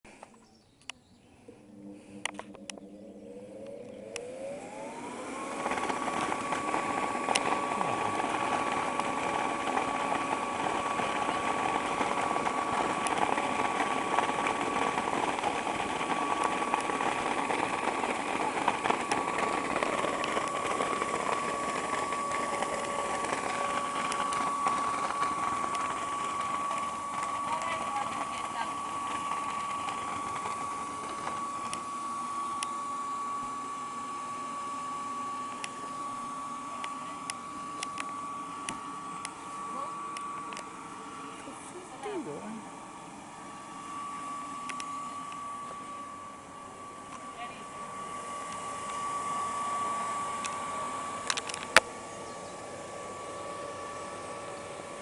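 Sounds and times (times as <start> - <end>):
inflation blower whine: 0.1 - 55.0
blower clicks: 0.2 - 34.2, 35.4 - 40.7, 44.6 - 45.8, 47.9 - 51.9.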